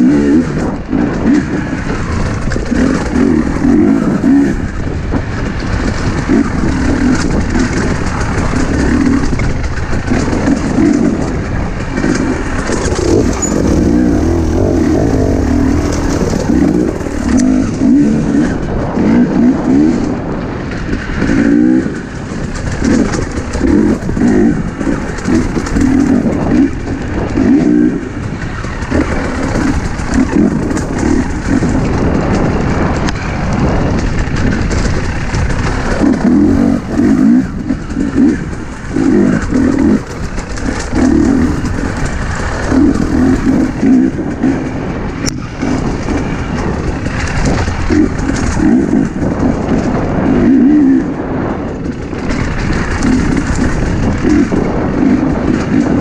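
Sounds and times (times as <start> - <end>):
bike rattling over rocks: 0.0 - 27.5, 28.1 - 56.0
dirt bike engine revving: 0.0 - 56.0.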